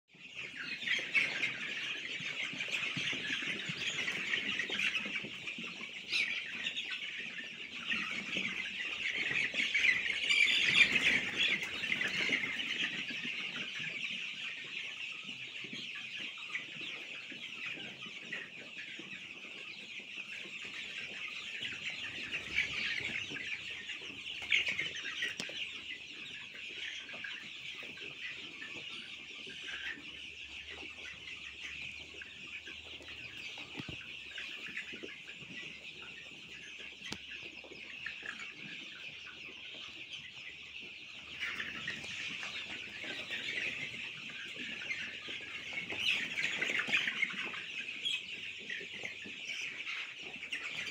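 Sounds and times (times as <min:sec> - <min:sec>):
chicks peeping: 0:00.1 - 0:50.9.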